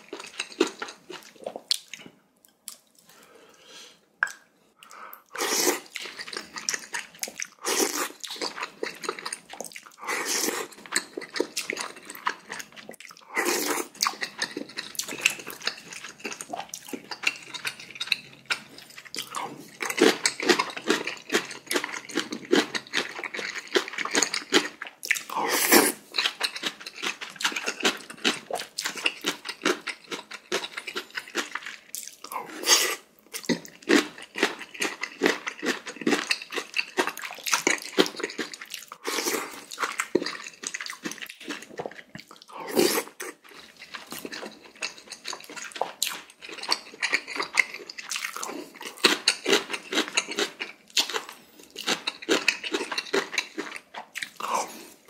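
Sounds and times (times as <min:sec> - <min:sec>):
person chewing with wet smacks: 0:00.0 - 0:03.1, 0:04.2 - 0:55.0.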